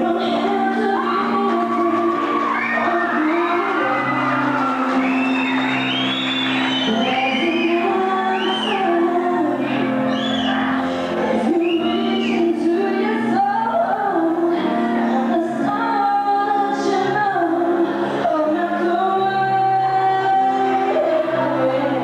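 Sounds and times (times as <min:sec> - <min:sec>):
woman singing into microphone: 0:00.0 - 0:05.6, 0:06.8 - 0:22.0.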